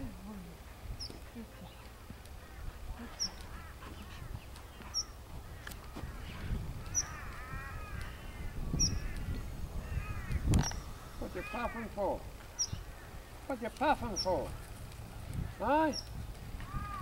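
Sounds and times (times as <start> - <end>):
harsh bird calls: 1.0 - 17.0.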